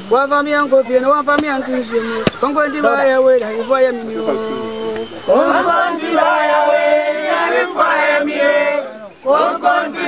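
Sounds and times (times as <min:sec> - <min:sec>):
group chanting: 0:01.6 - 0:10.0.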